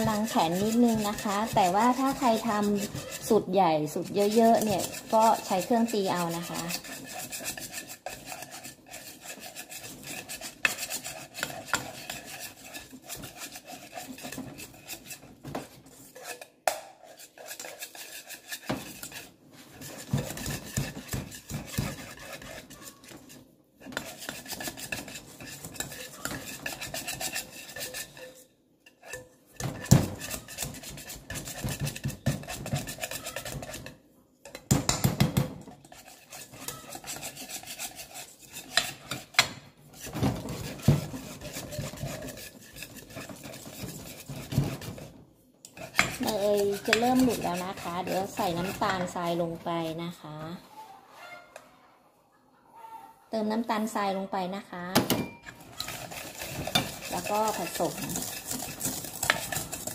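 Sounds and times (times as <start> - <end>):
whisk scraping metal bowl: 0.0 - 50.6, 55.0 - 59.9.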